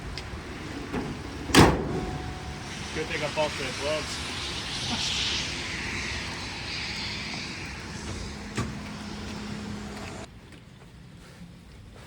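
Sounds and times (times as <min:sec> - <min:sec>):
road vehicle rushing hiss: 0:00.0 - 0:10.3.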